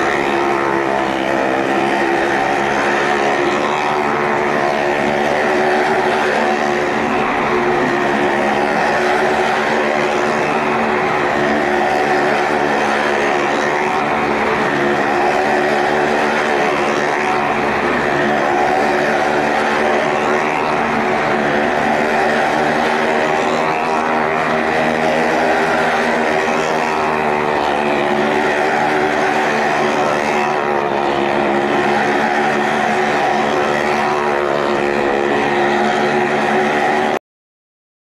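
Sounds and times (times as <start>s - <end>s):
car engines at high revs: 0.0s - 37.2s.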